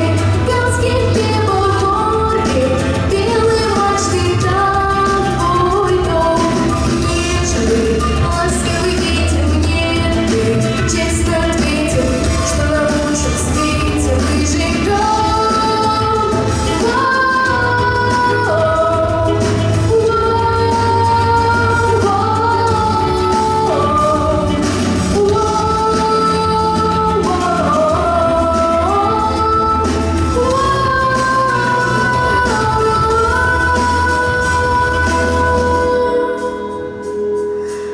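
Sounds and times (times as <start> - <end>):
musical accompaniment with bass: 0.0 - 37.9
woman singing: 0.0 - 37.9.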